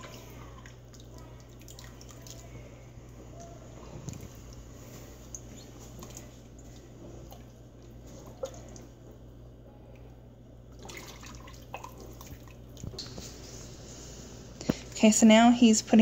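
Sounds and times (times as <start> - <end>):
liquid sloshing and dripping: 0.0 - 13.6
steady low hum: 0.0 - 16.0.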